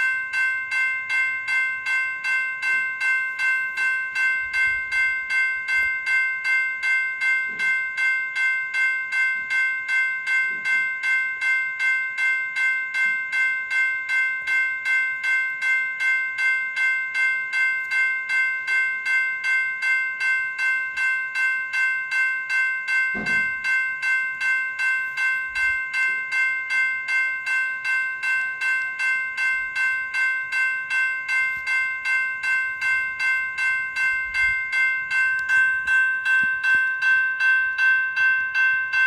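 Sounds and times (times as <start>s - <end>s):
electronic fire alarm bell ringing: 0.0s - 39.0s.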